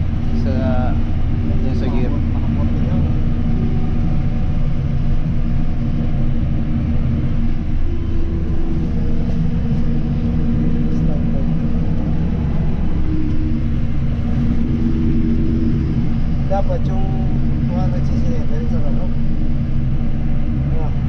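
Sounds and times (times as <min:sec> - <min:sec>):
tractor diesel engine droning: 0:00.0 - 0:21.0.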